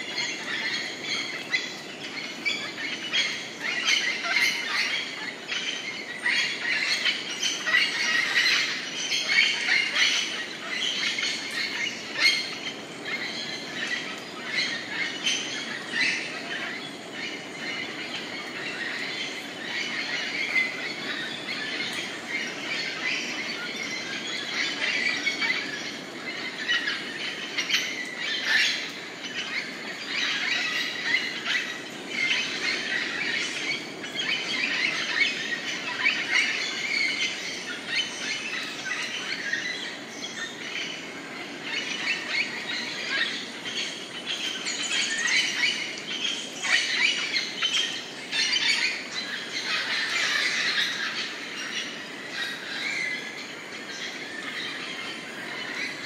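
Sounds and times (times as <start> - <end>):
rainforest birds calling: 0.0 - 56.0.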